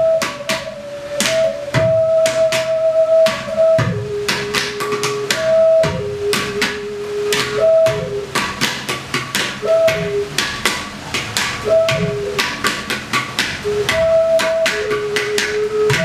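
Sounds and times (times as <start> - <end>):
small flute long notes: 0.0 - 8.7, 9.5 - 12.9, 13.6 - 16.0
clay pot drums beating: 0.0 - 16.0.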